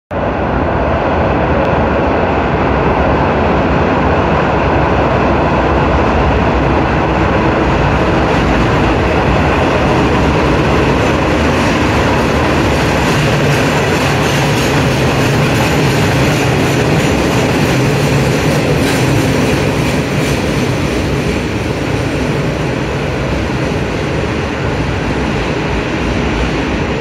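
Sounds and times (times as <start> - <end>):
train rushing through station: 0.1 - 27.0.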